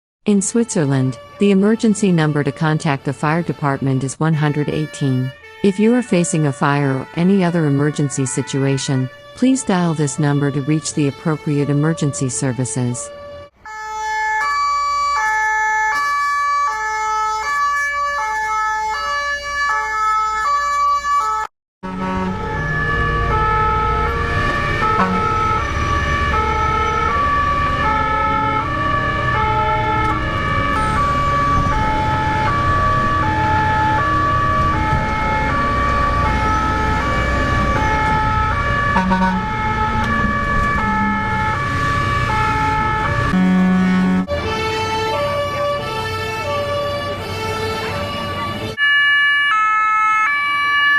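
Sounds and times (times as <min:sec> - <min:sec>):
engine and road noise: 0:00.3 - 0:20.0, 0:21.8 - 0:50.9
fire truck two-tone siren: 0:00.3 - 0:50.9.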